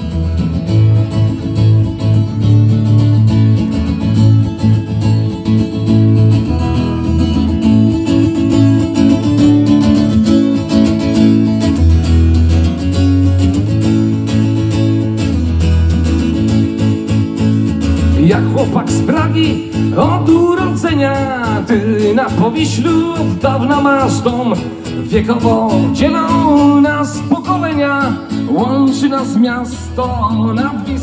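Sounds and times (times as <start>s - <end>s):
acoustic guitar playing: 0.0s - 31.0s.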